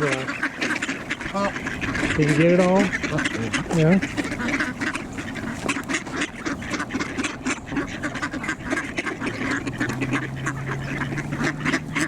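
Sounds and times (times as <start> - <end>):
ducks quacking: 0.0 - 12.0
low steady hum: 0.0 - 12.0.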